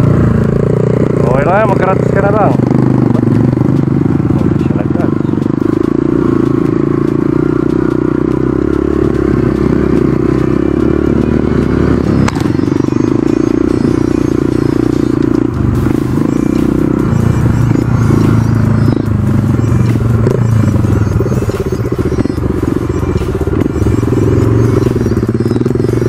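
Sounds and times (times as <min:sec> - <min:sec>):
motorbike engine running: 0:00.0 - 0:26.0.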